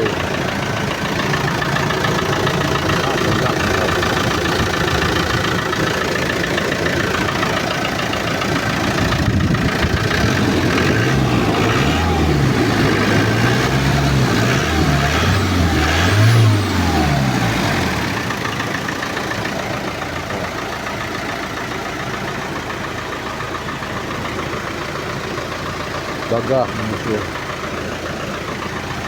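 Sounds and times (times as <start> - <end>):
diesel engine idling and revving: 0.0 - 29.0.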